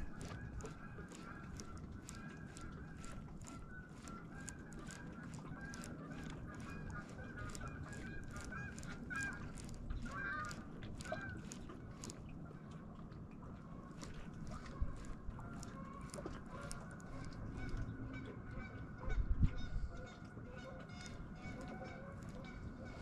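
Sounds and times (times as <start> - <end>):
geese honking: 0.0 - 12.7, 13.7 - 23.0
low steady rumble: 0.0 - 23.0.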